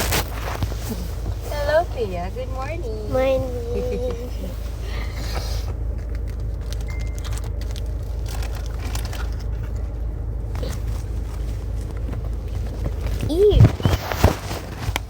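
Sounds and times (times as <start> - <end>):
car cabin rumble: 0.0 - 15.0
interior clicks and rattles: 0.0 - 15.0.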